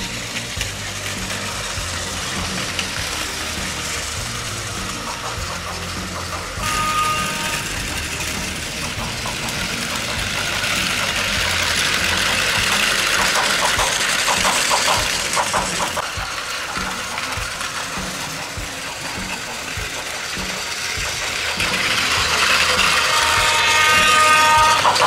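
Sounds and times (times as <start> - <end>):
toy train motors whirring: 0.0 - 25.0.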